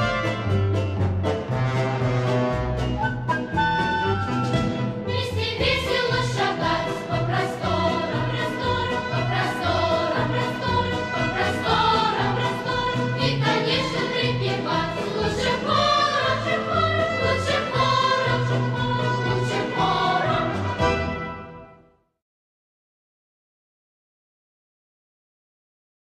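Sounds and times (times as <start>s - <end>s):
music with choral singing and beat: 0.0s - 21.6s.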